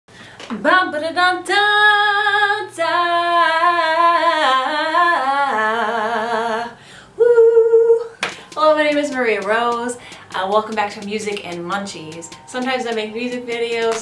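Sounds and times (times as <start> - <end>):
woman singing: 0.5 - 14.0.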